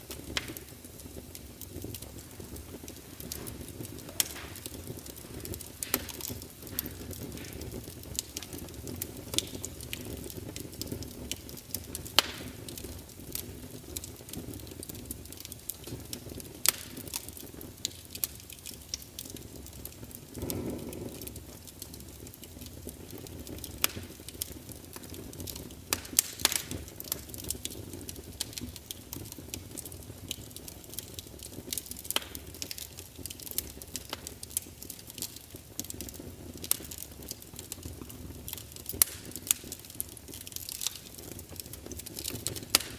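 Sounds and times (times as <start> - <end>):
low rumble of burning logs: 0.0 - 42.9
wood fire crackling: 0.0 - 42.9.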